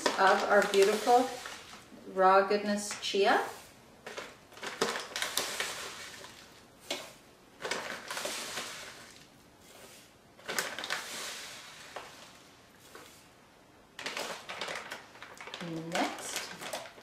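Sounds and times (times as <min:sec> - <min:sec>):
seeds pouring into plastic jar: 0:00.0 - 0:01.9, 0:02.9 - 0:13.3, 0:14.0 - 0:17.0.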